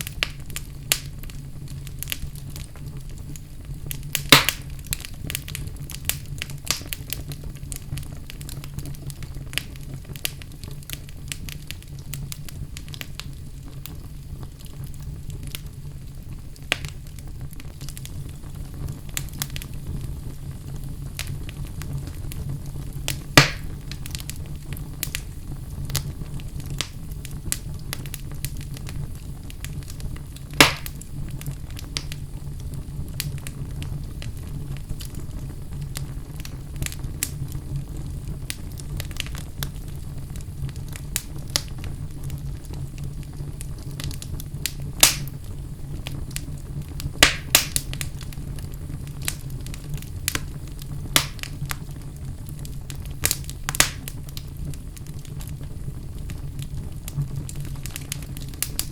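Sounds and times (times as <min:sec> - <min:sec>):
fire pops: 0:00.0 - 0:58.9
wood fire crackling: 0:00.0 - 0:58.9.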